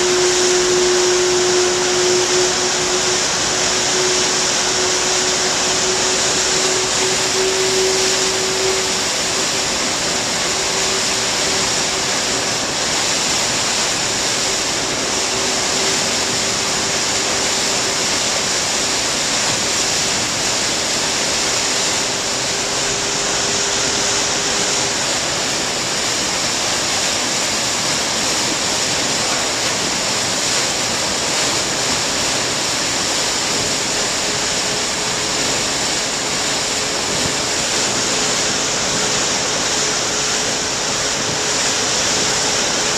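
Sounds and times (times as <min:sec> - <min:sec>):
faint ship machinery hum: 0:00.0 - 0:42.9
turbulent water rushing: 0:00.0 - 0:42.9.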